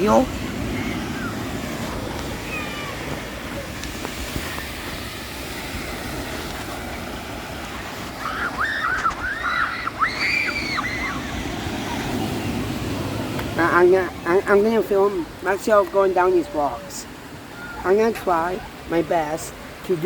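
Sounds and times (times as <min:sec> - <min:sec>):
wind on microphone: 0:00.0 - 0:17.9
surf against rocky shore: 0:00.0 - 0:20.0.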